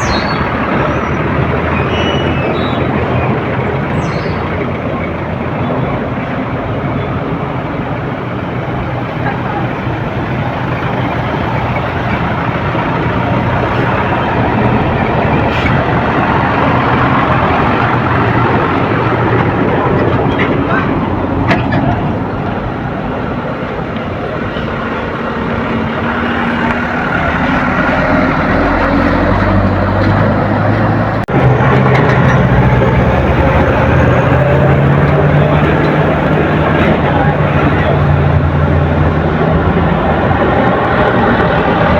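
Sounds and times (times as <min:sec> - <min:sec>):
diesel engines in traffic: 0:00.0 - 0:41.9.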